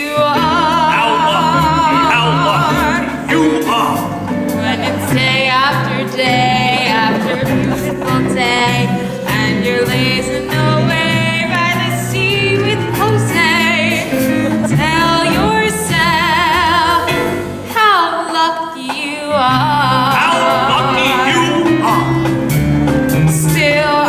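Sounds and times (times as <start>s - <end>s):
woman singing with vibrato: 0.0s - 22.3s, 23.3s - 24.0s
instrumental accompaniment: 0.0s - 24.0s.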